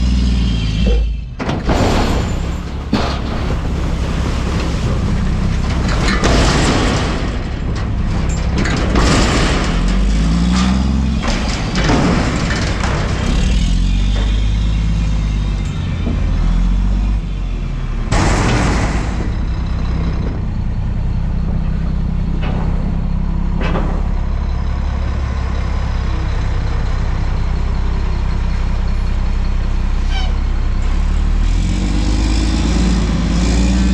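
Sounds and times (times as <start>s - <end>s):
diesel truck engine revving: 0.0s - 33.9s.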